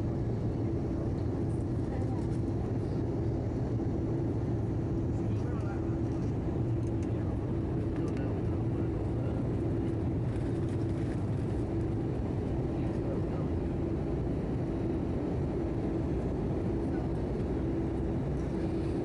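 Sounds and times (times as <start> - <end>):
airplane cabin engine rumble: 0.0 - 19.0
mid-pitched hum: 0.0 - 19.0.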